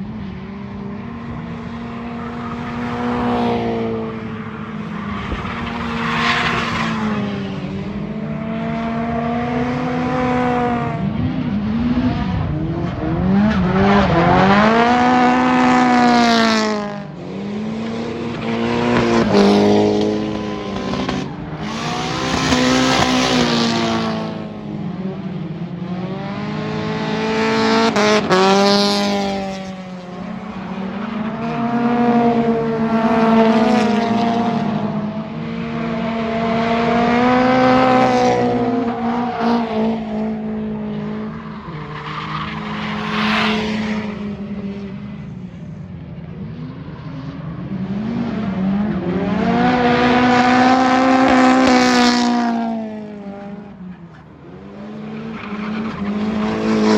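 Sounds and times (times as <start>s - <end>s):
car engines revving hard: 0.0s - 56.9s.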